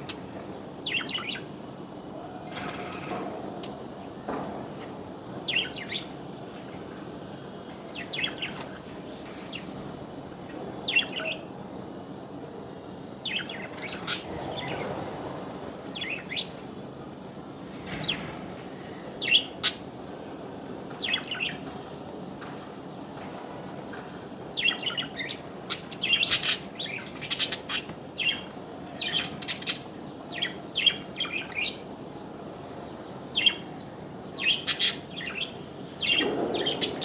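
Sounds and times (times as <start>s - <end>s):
small birds chirping: 0.0s - 4.4s, 5.1s - 37.0s.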